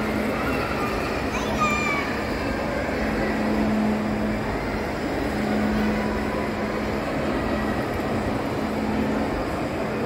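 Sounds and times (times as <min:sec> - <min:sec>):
distant crowd murmur: 0:00.0 - 0:10.0
ventilation noise: 0:00.0 - 0:10.0.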